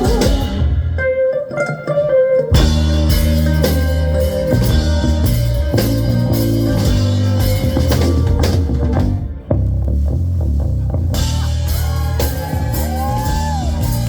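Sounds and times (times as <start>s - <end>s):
bass guitar: 0.0s - 14.0s
drum kit: 0.0s - 14.0s.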